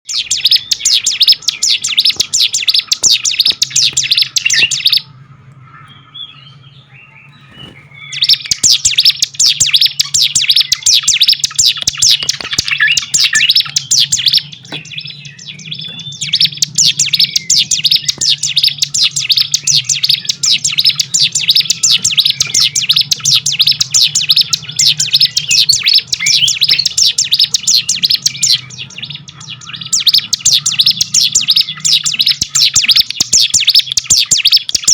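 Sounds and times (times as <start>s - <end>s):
bird chirping: 0.0s - 34.9s
low steady hum: 0.1s - 34.8s.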